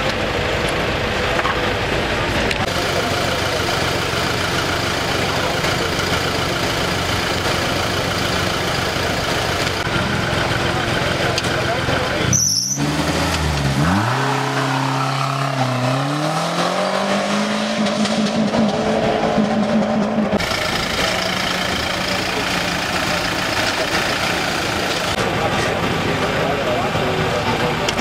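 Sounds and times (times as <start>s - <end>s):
jeep engine revving: 2.5s - 28.0s.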